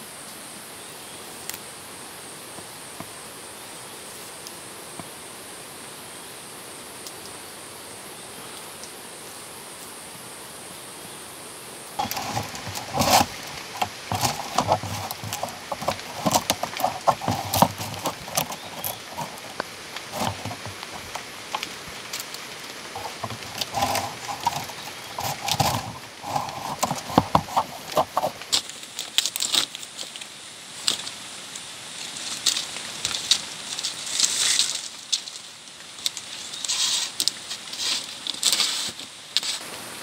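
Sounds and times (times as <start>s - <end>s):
leaves rustling: 0.0s - 40.0s.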